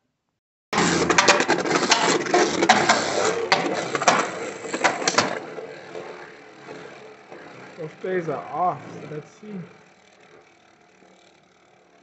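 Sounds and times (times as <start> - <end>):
spinning tops clashing and scraping: 0.8 - 12.0.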